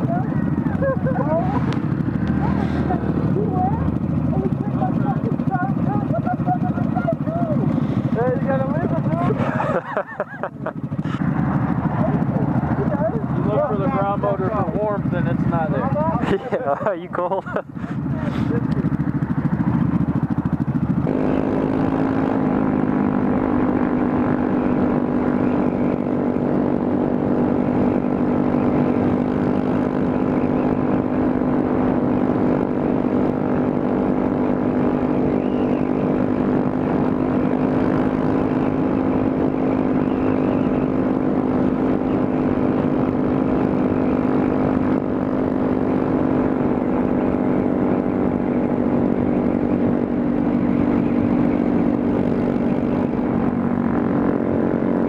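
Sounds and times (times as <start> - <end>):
motorcycle engine droning: 0.0 - 55.0.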